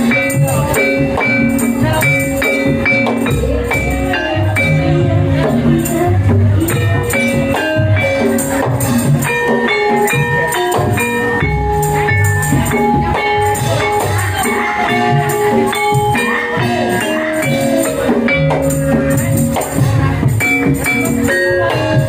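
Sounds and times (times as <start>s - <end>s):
melody of held notes: 0.0s - 22.0s
steady drum beat: 0.0s - 22.0s.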